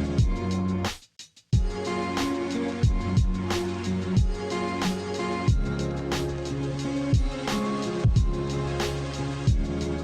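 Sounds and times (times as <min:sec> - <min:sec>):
melody over steady beat: 0:00.0 - 0:00.9, 0:01.6 - 0:10.0.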